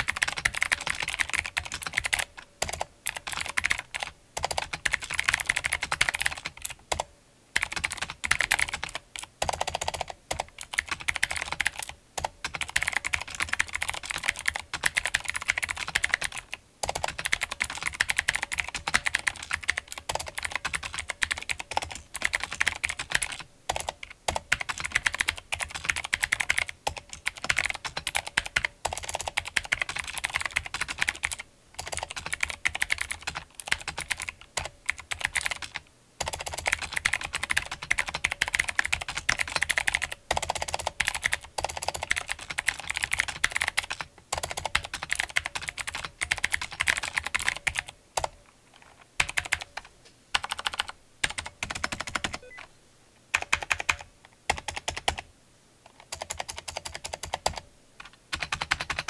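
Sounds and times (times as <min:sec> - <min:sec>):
clicky keyboard typing: 0:00.0 - 0:52.7, 0:53.3 - 0:55.2, 0:55.9 - 0:59.0.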